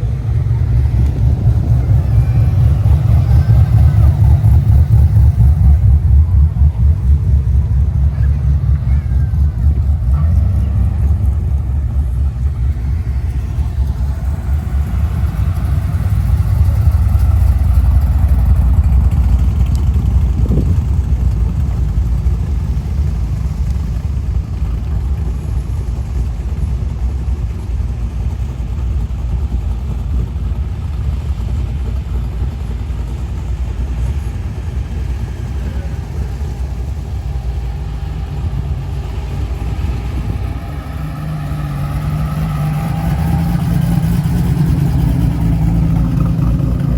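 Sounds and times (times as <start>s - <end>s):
car engine deep rumble: 0.0s - 46.9s.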